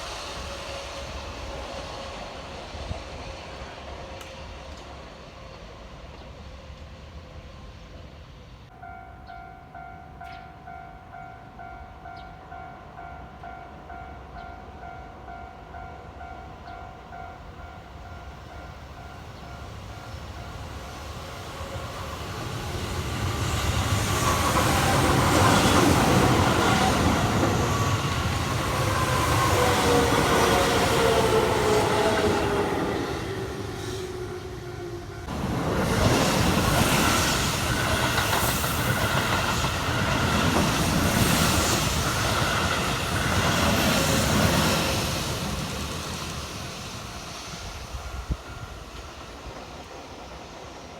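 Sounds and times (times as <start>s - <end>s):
electric train passing: 0.0s - 50.9s.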